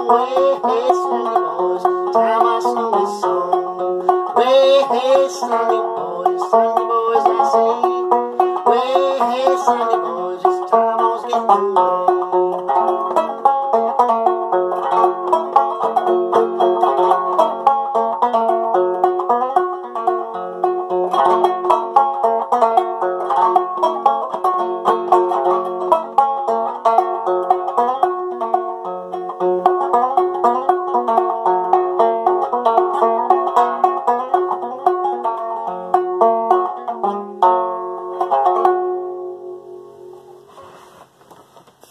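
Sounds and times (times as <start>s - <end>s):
solo banjo: 0.0s - 41.0s.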